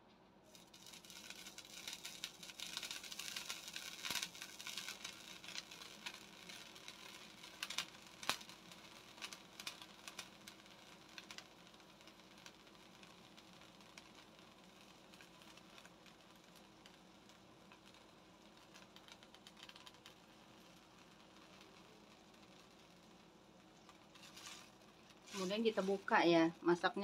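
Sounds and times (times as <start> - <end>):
faint crackling and spattering: 0.0 - 27.0
tomatoes simmering in a pan: 0.4 - 27.0.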